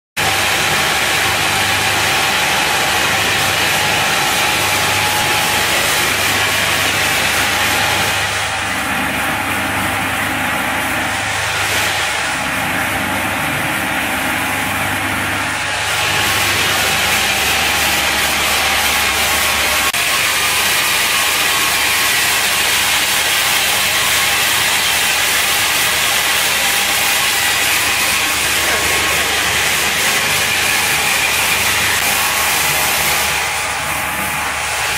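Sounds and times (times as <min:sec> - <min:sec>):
extruder machine running: 0:00.2 - 0:34.9
thin steady machine whine: 0:00.2 - 0:34.9.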